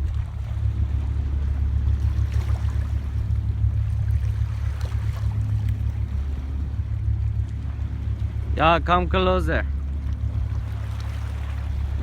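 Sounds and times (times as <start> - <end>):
light water splashes: 0.0 - 12.0
low rumble: 0.0 - 12.0.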